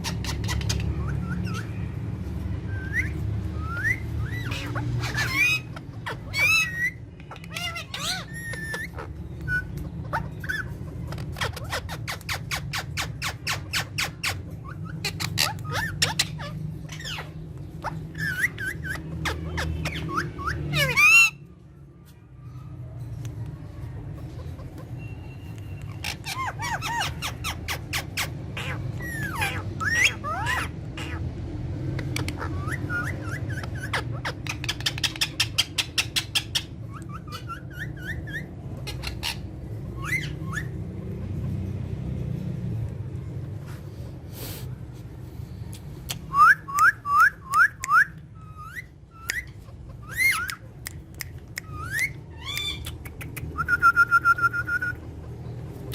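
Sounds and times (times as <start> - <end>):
parrot squawk: 0.0 - 2.0, 2.7 - 21.6, 24.0 - 41.4, 46.3 - 55.9
parrots chattering: 0.0 - 55.9.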